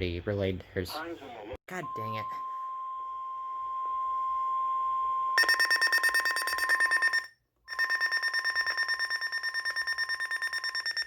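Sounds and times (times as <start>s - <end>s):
steady warning tone: 1.7s - 11.0s.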